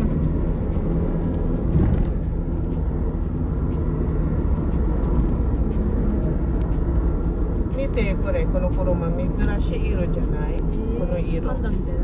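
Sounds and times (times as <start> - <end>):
car road rumble from inside: 0.0 - 12.0.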